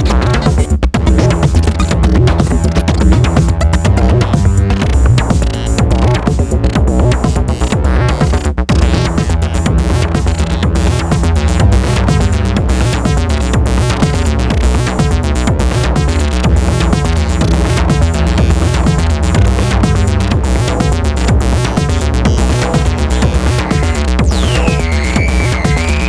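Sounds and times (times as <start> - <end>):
electronic drum hits: 0.0 - 26.0
granular sampled textures: 0.0 - 26.0
synthesizer bass line: 0.0 - 26.0.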